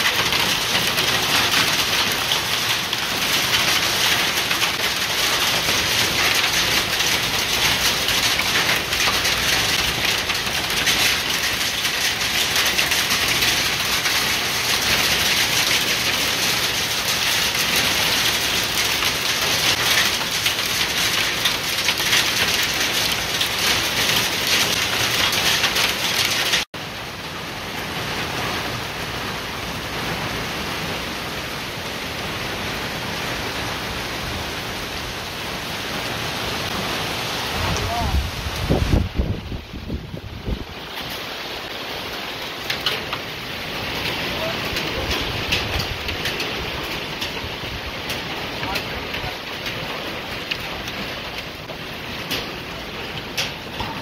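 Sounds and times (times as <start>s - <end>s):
heavy rain pelting down: 0.0s - 54.0s
softer steady rain: 0.0s - 54.0s.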